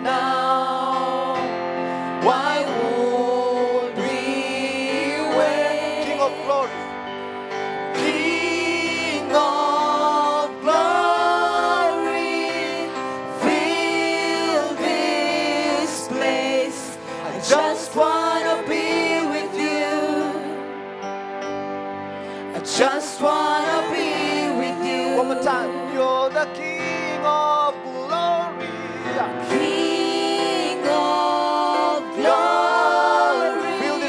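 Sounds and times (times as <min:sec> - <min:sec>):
voices singing gospel song: 0:00.0 - 0:20.9, 0:22.3 - 0:27.3, 0:27.9 - 0:34.0
instrumental backing: 0:00.0 - 0:34.0.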